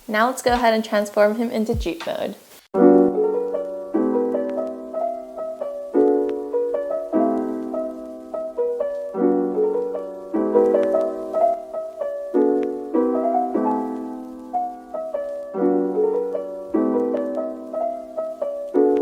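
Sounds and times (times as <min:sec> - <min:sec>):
gentle piano music: 0:02.8 - 0:19.0.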